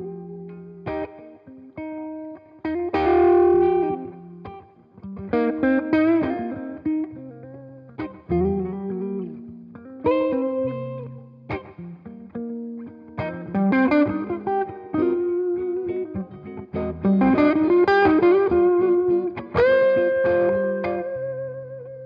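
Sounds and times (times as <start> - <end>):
electric guitar playing: 0.0 - 22.0.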